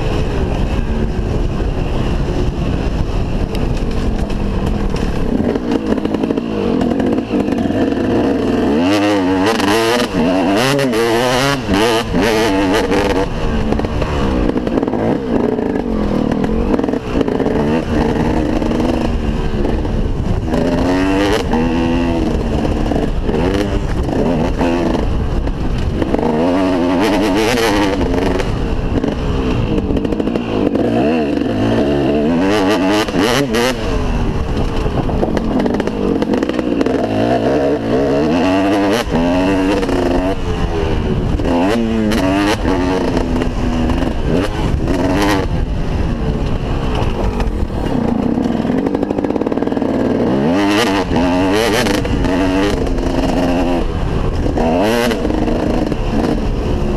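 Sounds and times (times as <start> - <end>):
constant low rumble: 0.0 - 56.9
motorcycle engine revving: 0.0 - 56.9.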